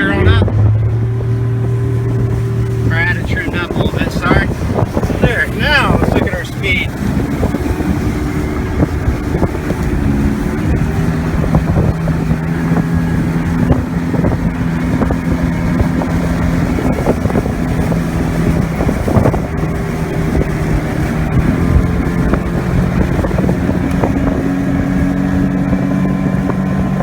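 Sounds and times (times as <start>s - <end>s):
outboard motor running: 0.0s - 27.0s
wind buffeting microphone: 0.0s - 27.0s.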